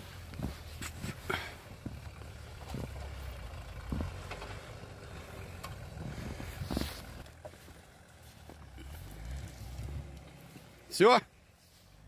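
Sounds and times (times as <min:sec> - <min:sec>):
off-road vehicle engine rumble: 0:00.0 - 0:12.0.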